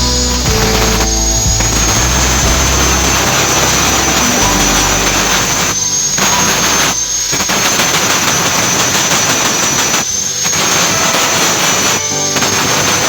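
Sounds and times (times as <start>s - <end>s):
welding arc crackling and hissing: 0.0s - 13.0s.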